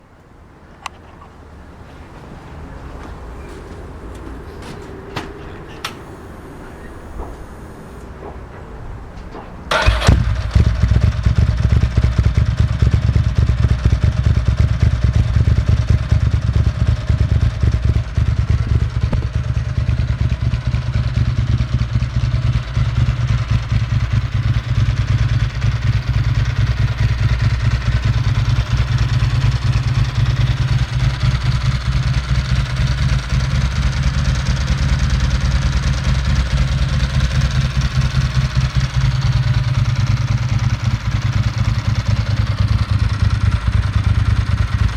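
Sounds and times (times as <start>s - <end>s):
motorcycle engine idling: 2.0s - 44.9s.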